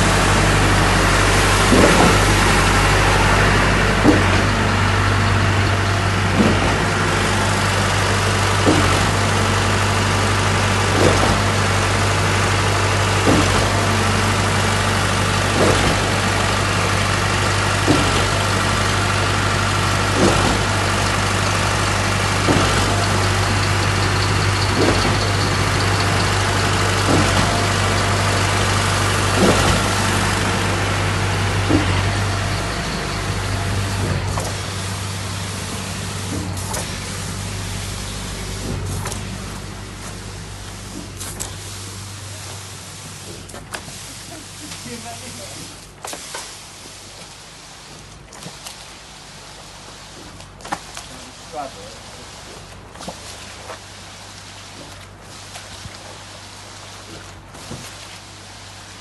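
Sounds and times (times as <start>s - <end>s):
pump knocking: 0.0s - 58.9s
concrete pump engine hum: 0.0s - 59.0s.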